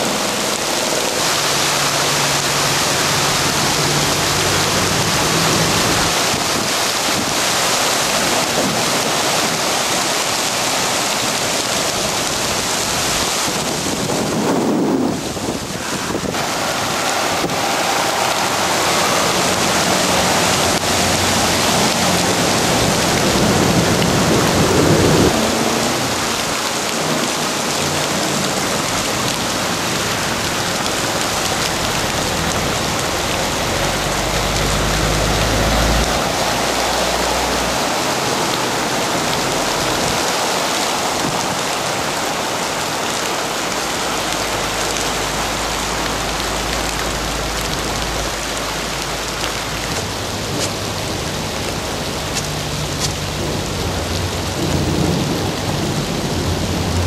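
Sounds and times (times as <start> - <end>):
heavy rain pouring: 0.0 - 57.0
vehicles splashing through water: 0.0 - 57.0.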